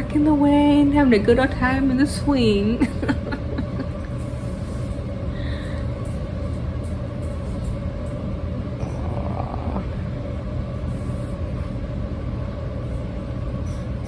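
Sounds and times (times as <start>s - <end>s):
faint constant hum: 0.0s - 14.0s
steady low rumble: 0.0s - 14.0s.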